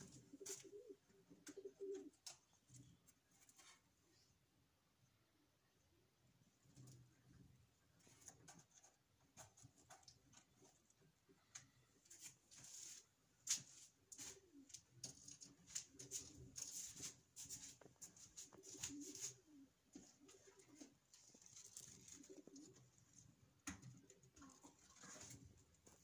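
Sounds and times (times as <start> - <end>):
faint pigeon cooing: 0.0 - 11.9, 14.1 - 26.0.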